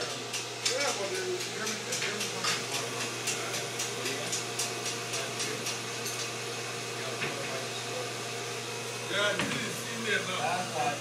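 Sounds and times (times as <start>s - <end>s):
refrigeration system humming: 0.0s - 11.0s.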